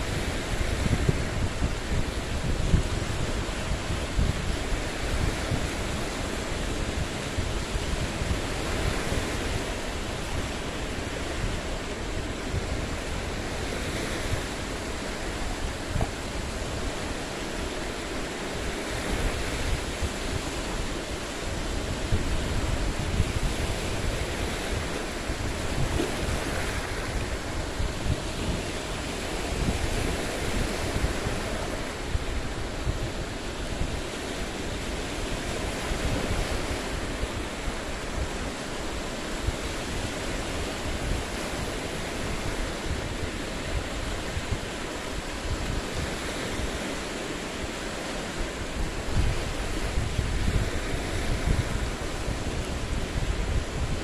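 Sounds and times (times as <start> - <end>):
waves washing over boulders: 0.0 - 54.0
wind noise on microphone: 0.0 - 54.0.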